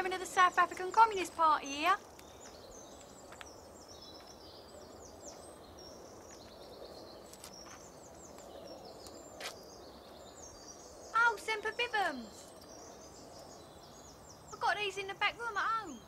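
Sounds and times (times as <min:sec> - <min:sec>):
faint background noise: 0:00.0 - 0:16.0
songbirds chirping and trilling: 0:00.0 - 0:16.0.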